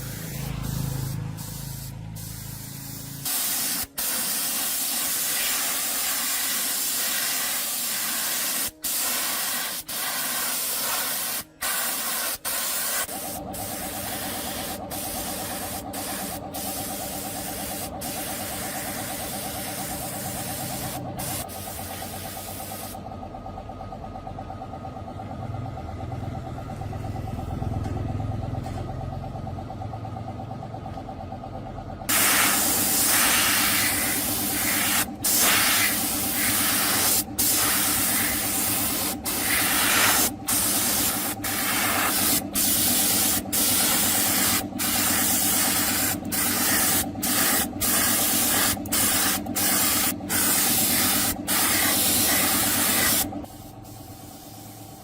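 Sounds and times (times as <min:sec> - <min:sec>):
compressed air spray hissing: 0:00.0 - 0:23.0, 0:32.1 - 0:55.0.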